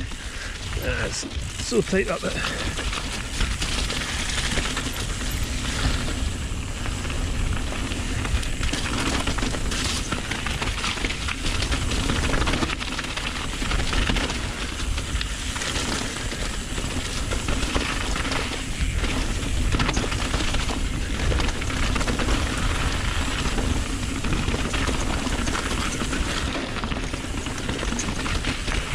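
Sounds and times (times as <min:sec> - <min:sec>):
bike rattling: 0:00.0 - 0:28.9
tyres crunching over stones: 0:00.0 - 0:28.9
wind rumbling over microphone: 0:00.0 - 0:28.9.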